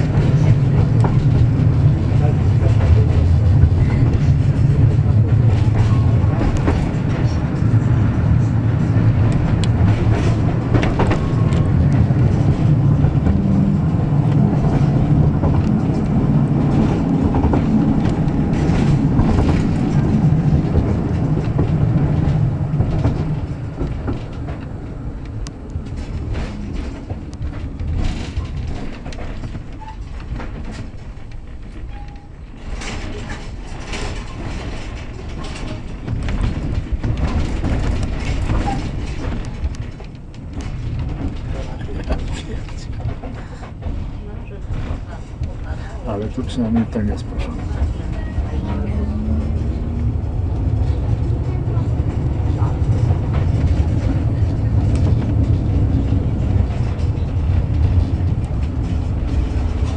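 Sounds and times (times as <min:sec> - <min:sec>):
tram motor hum: 0:00.0 - 0:59.9
wheels clicking over rail joints: 0:00.0 - 0:59.9.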